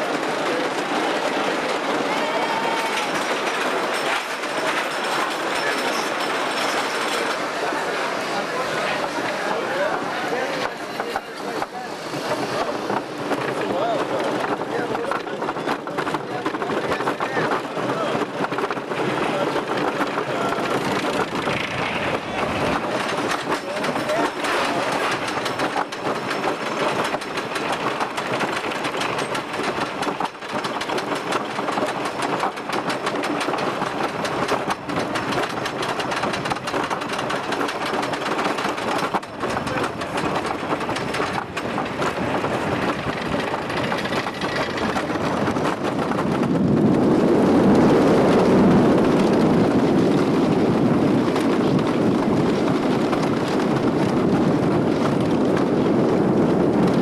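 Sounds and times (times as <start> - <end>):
wheels rumbling on wooden track: 0.0 - 57.0.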